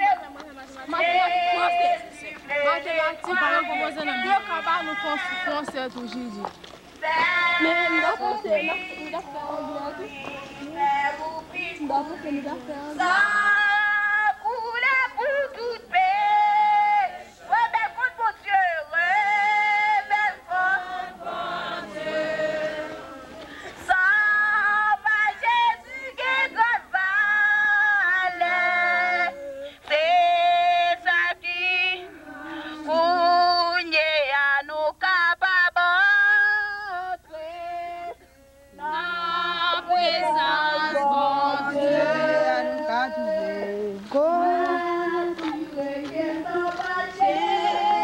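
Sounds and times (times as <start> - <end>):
group singing a hymn: 0.0 - 48.0.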